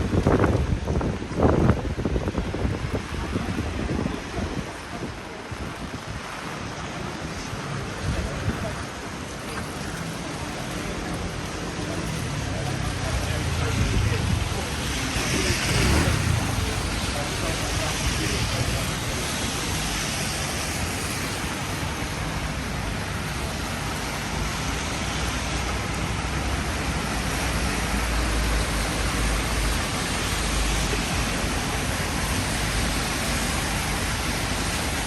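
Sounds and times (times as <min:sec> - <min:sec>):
heavy rain hissing: 0:00.0 - 0:35.0.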